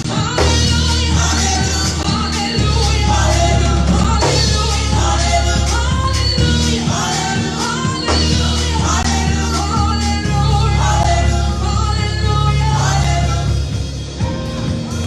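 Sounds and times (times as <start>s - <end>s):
gospel singing with band: 0.0s - 15.0s
held bass notes: 0.0s - 15.0s.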